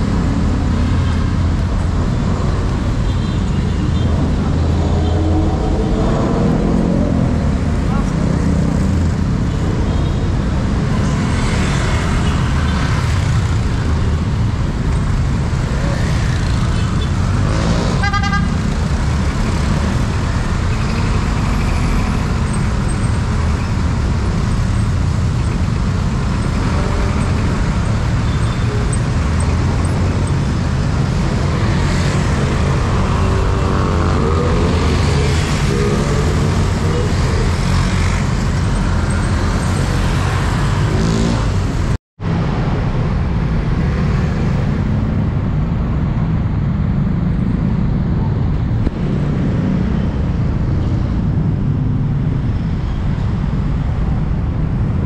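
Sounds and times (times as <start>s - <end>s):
traffic rumble of engines and tyres: 0.0s - 55.0s.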